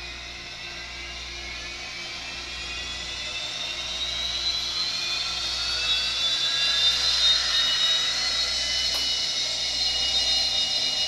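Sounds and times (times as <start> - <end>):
turbine whine rising in pitch: 0.0 - 11.0.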